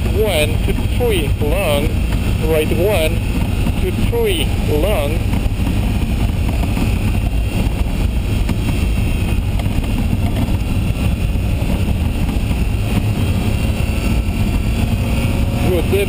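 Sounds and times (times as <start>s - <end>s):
car engine under load: 0.0s - 16.0s
tyre and wind noise: 0.0s - 16.0s.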